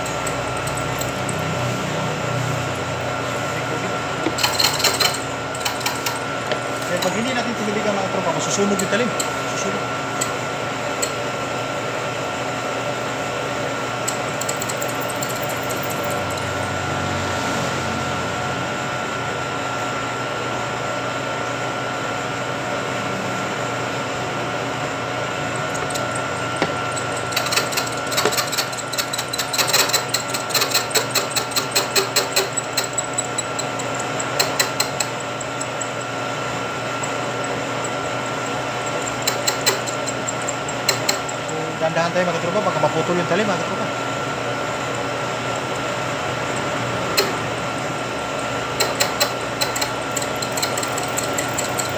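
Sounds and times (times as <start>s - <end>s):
milling machine humming: 0.0s - 51.9s.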